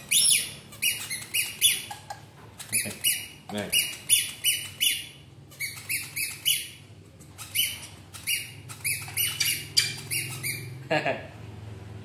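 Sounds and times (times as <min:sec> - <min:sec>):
baby monkey squealing: 0:00.0 - 0:10.8.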